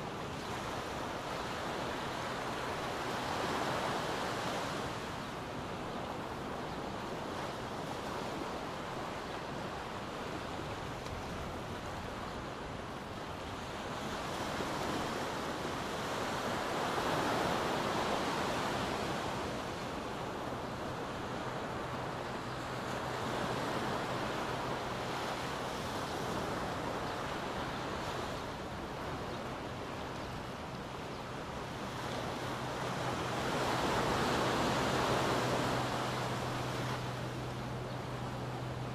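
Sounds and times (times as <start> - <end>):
ocean waves washing on sand: 0.0 - 38.9.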